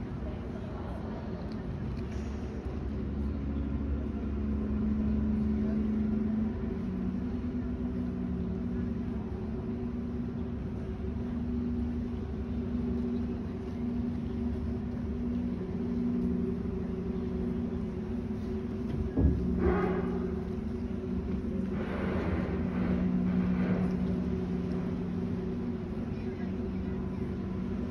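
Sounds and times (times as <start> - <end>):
ferry engines rumbling: 0.0 - 27.9.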